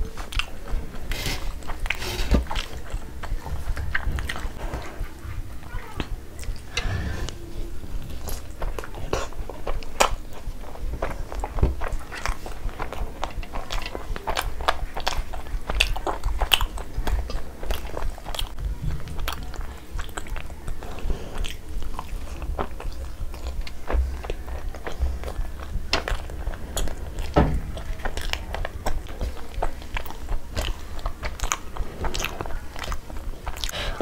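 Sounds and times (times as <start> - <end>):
wet chewing and lip smacks: 0.0 - 6.7, 7.8 - 34.0
fingers squishing through gravy: 0.0 - 6.8, 7.8 - 34.0.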